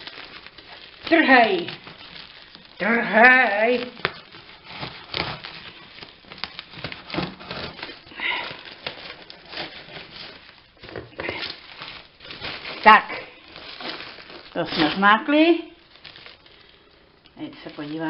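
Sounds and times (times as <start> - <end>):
plastic wrapping being cut and torn: 0.0 - 18.0.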